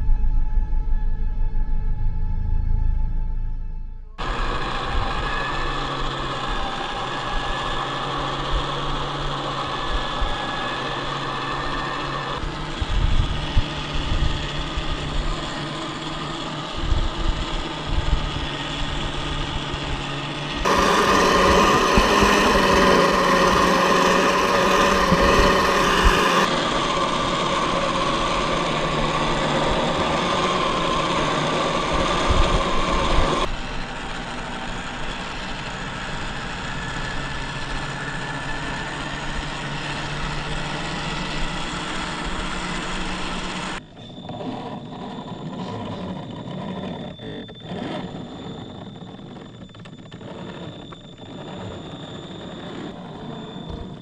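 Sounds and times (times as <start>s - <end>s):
electric motor whining: 4.2s - 54.0s.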